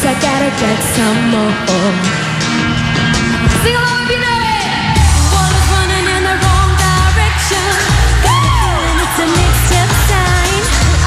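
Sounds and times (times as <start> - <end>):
women singing into microphones: 0.0 - 2.1, 3.6 - 11.0
pop backing track with bass: 0.0 - 11.0.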